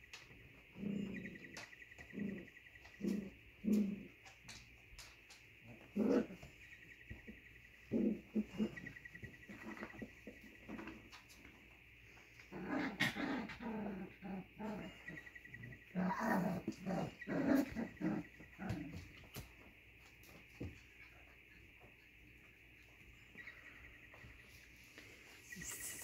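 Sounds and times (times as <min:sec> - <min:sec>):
puppies play-growling: 0:00.1 - 0:26.0.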